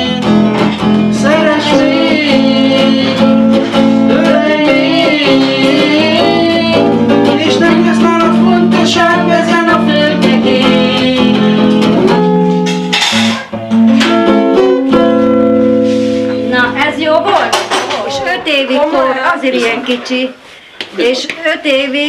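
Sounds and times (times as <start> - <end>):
guitar playing a tune: 0.0 - 20.4.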